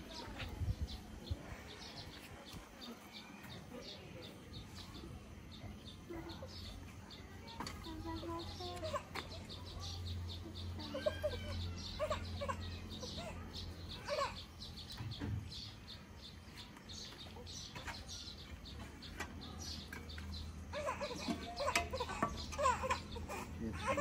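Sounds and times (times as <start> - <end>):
chickens clucking: 0.0 - 24.0
small birds chirping: 0.0 - 24.0.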